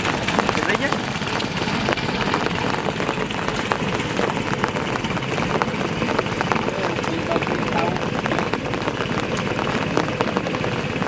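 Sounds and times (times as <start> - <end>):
rain pattering: 0.0 - 11.0
small water pump engine running: 0.0 - 11.0
water splashing: 0.0 - 11.0.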